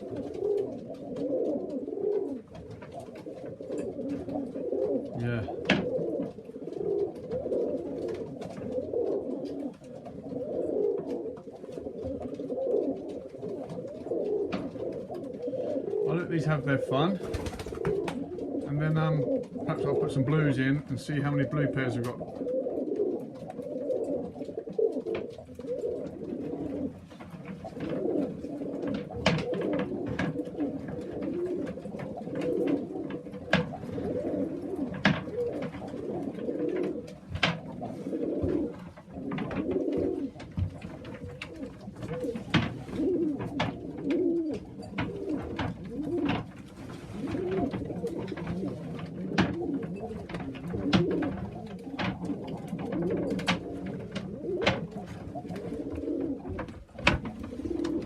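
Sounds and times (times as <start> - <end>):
pigeons cooing: 0.0 - 58.0.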